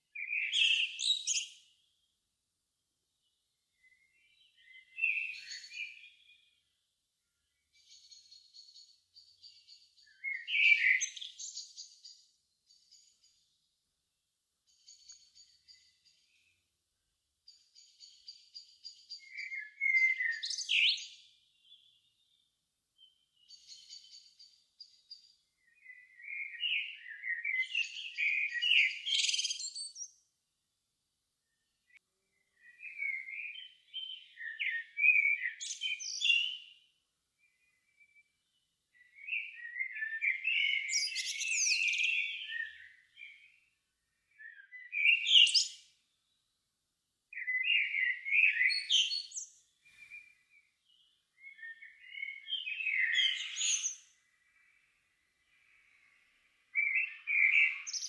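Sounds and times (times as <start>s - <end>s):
bird warbling song: 0.2s - 1.8s, 3.7s - 6.6s, 7.5s - 13.6s, 14.7s - 16.6s, 17.5s - 30.2s, 31.5s - 36.8s, 37.4s - 46.4s, 47.3s - 58.0s.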